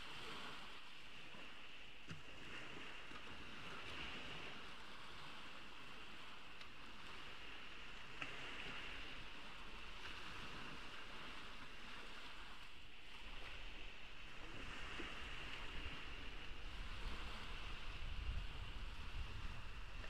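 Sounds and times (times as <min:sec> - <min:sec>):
ocean waves on beach: 0:00.0 - 0:20.0.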